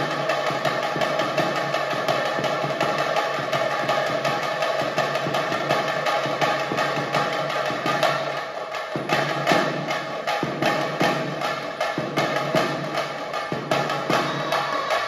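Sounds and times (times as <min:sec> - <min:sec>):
music with percussive beat: 0:00.0 - 0:15.0.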